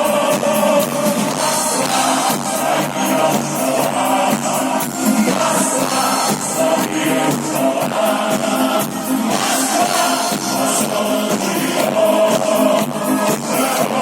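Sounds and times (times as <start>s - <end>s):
instrumental pop music: 0.0s - 14.0s.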